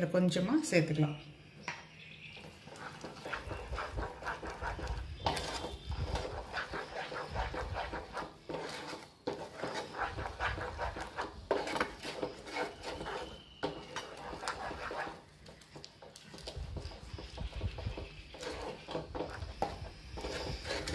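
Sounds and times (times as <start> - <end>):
spatula scraping a frying pan: 2.3 - 20.9.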